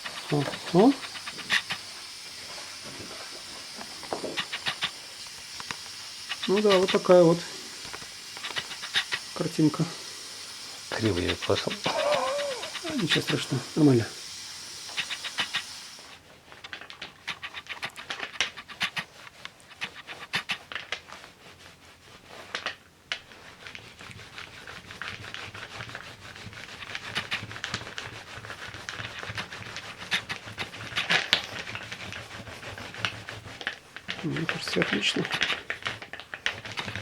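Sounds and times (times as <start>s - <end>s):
scratching and rubbing strokes: 0.0s - 37.0s.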